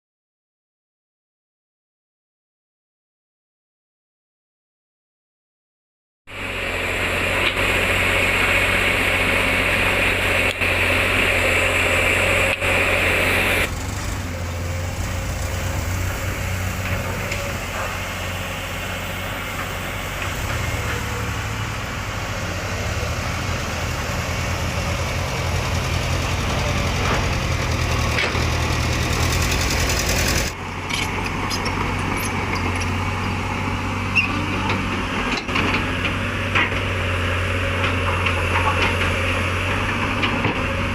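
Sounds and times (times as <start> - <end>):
dump trucks running: 6.3 - 40.9
excavator diesel engine: 6.3 - 40.9.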